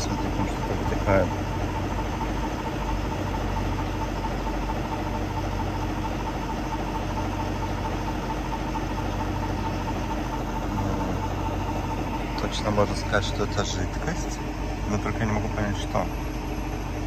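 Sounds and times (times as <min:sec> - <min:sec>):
truck engine and pump drone: 0:00.0 - 0:17.0.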